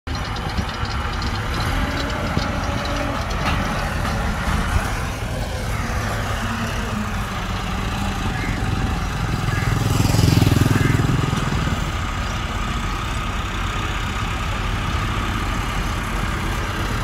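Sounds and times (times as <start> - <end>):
heavy diesel engine drone: 0.1 - 17.0.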